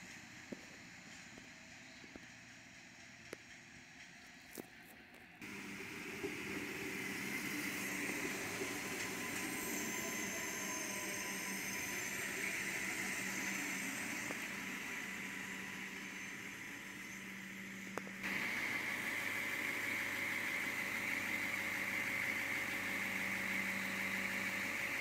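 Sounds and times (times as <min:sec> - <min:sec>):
wheels on rails: 0:00.0 - 0:25.0
diesel engine hum: 0:04.6 - 0:25.0.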